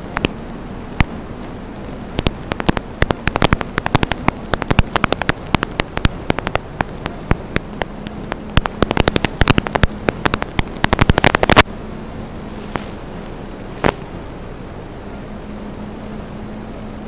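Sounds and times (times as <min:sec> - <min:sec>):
sharp crackles and pops: 0:00.0 - 0:14.4
faint low hum: 0:00.0 - 0:17.0
static hiss: 0:00.0 - 0:17.0.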